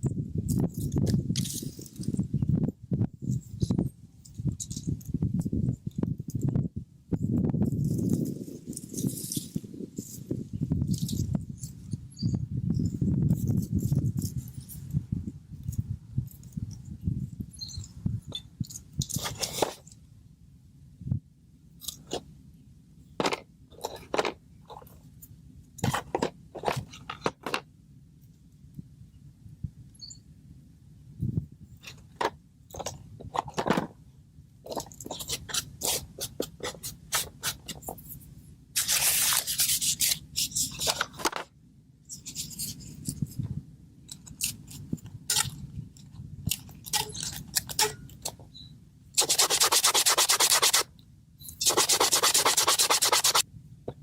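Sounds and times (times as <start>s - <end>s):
low outdoor rumble: 0.0s - 49.3s, 50.8s - 52.1s, 52.8s - 54.0s.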